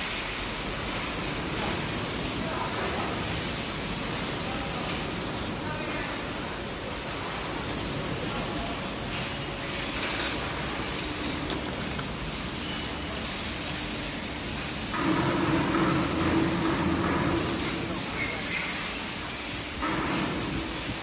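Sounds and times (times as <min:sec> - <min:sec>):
factory machinery din: 0:00.1 - 0:21.0.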